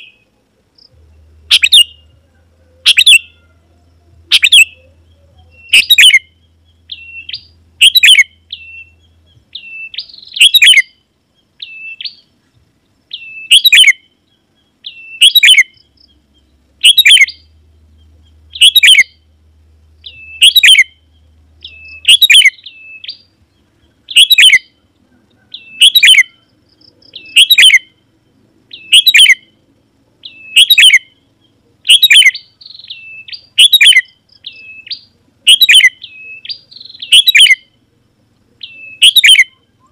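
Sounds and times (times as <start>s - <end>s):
bird calling: 0.0s - 29.6s, 30.2s - 39.9s.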